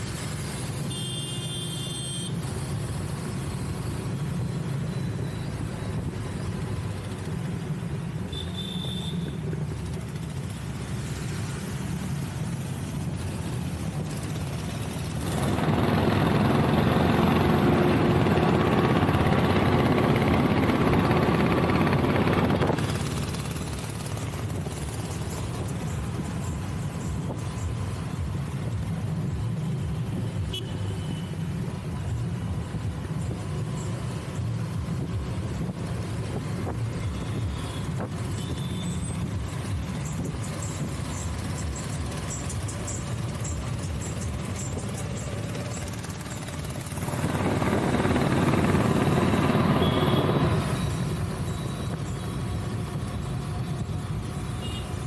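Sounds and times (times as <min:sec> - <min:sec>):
wind and tyre rumble: 0:02.3 - 0:55.0.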